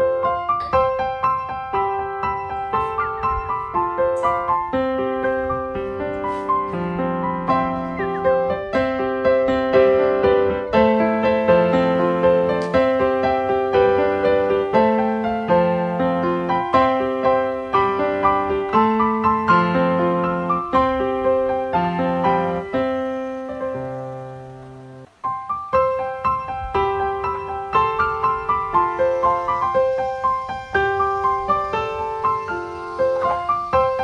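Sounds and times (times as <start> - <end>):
gentle piano music: 0.0 - 34.0.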